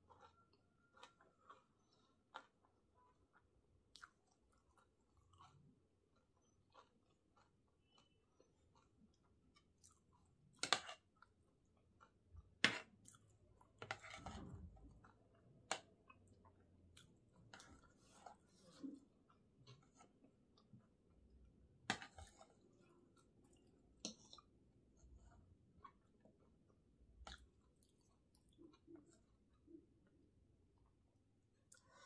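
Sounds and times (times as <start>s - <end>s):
person chewing: 0.0s - 32.0s.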